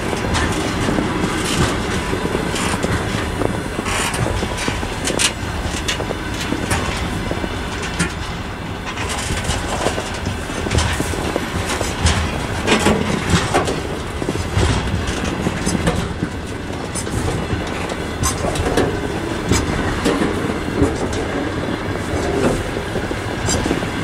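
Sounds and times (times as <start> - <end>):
train wheels rumbling on rail: 0.0 - 24.0
wheels clacking over rail joints: 0.0 - 24.0.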